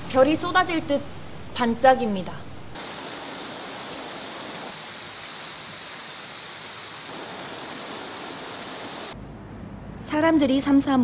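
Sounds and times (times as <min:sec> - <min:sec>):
stream water flowing: 0:00.0 - 0:09.2.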